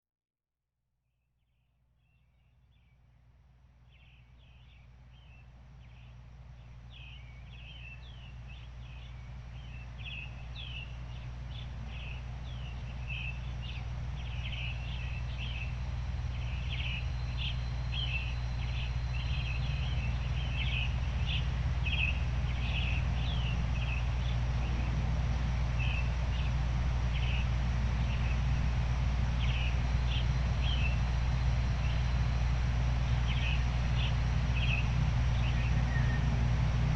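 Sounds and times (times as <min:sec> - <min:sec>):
steady low noise: 0:02.7 - 0:36.9
small birds chirping: 0:03.7 - 0:36.9.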